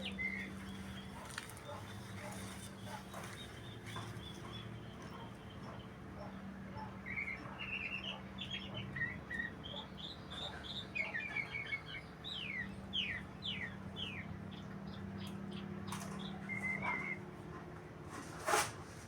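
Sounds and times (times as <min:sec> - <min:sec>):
songbird chirps and warbles: 0:00.0 - 0:17.4.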